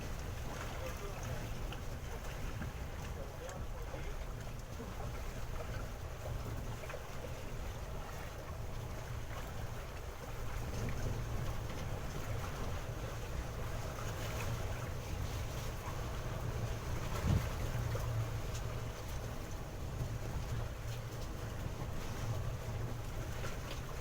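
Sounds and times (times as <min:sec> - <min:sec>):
small boat engine running: 0:00.0 - 0:24.0
water noise: 0:00.0 - 0:24.0
wind: 0:00.0 - 0:24.0.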